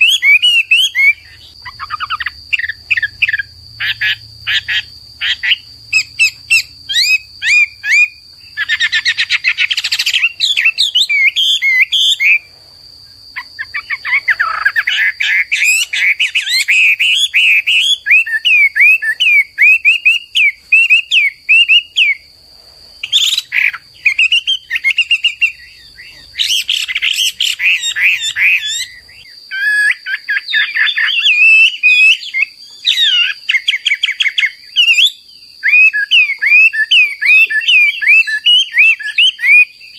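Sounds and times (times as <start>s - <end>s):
bird singing whistled trills: 0.0s - 12.5s, 13.1s - 22.3s, 23.0s - 39.9s.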